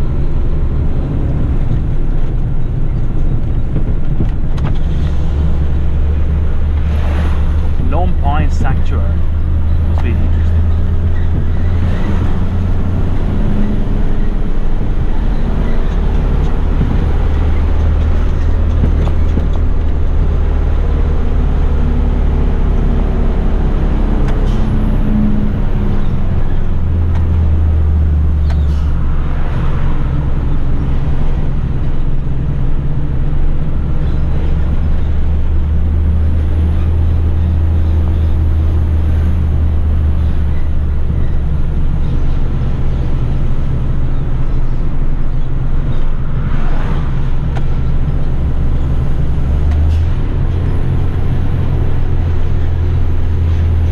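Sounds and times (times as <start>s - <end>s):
road and tyre noise: 0.0s - 53.9s
truck engine running: 0.0s - 53.9s.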